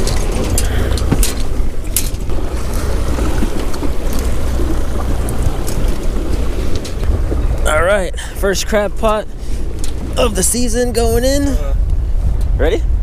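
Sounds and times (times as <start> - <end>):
boat engine rumble: 0.0 - 13.0
wind on microphone: 0.0 - 13.0.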